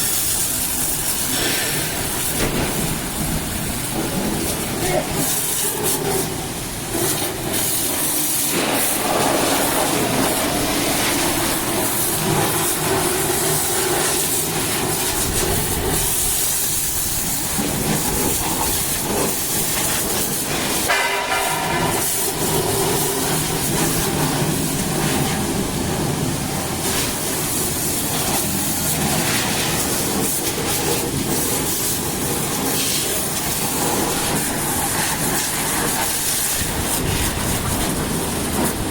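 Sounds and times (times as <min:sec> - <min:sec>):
high-pressure water jet hissing: 0:00.0 - 0:38.9.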